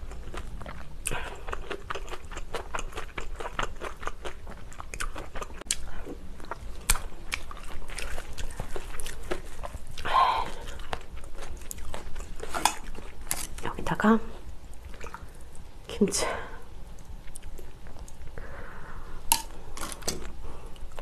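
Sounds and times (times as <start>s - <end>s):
crunchy wet chewing: 0.0s - 13.7s, 14.4s - 15.7s, 16.9s - 18.7s.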